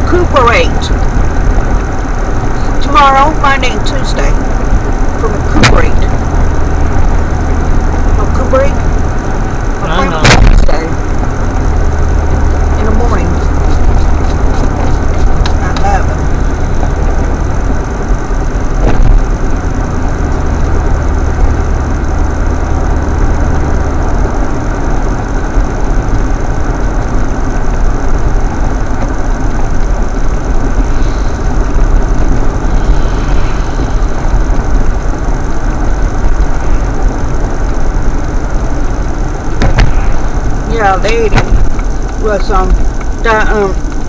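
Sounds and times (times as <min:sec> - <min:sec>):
car road and engine noise: 0:00.0 - 0:44.0.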